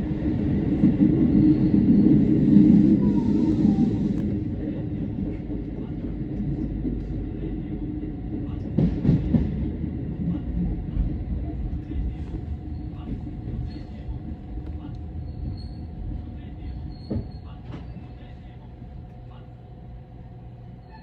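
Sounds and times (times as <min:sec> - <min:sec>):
train wheels rumbling on rail: 0:00.0 - 0:19.2.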